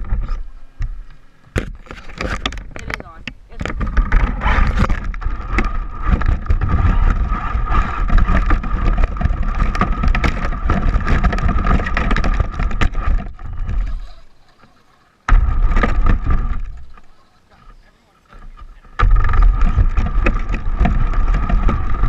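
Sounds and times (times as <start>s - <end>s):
wind rumble on microphone: 0.0s - 14.2s, 15.3s - 17.0s, 18.5s - 22.0s
gravel ticking: 0.0s - 22.0s.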